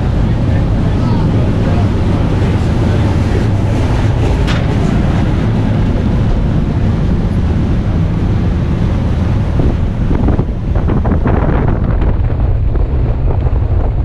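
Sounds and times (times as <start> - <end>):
boat engine drone: 0.0 - 14.0
wind rushing over microphone: 0.0 - 14.0.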